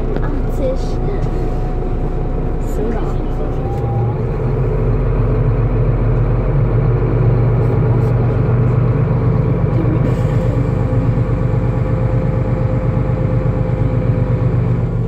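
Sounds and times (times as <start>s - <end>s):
bus engine low drone: 0.0s - 15.0s
steady whine: 0.0s - 15.0s.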